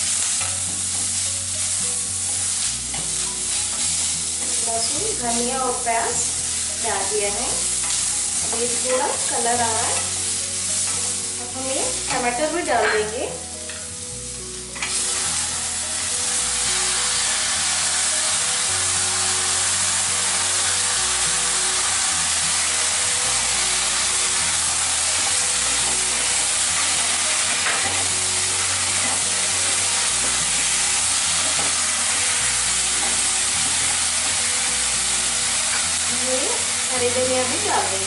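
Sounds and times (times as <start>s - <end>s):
background music with bass notes: 0.0s - 38.0s
tomatoes sizzling in hot oil: 0.0s - 38.0s.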